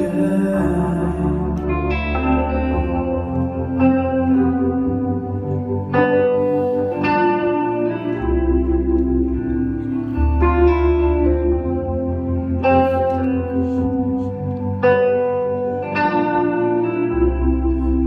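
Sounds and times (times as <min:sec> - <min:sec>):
keyboard notes: 0:00.0 - 0:18.0
low bass notes: 0:00.0 - 0:18.0
slow blues electric guitar: 0:00.0 - 0:18.0.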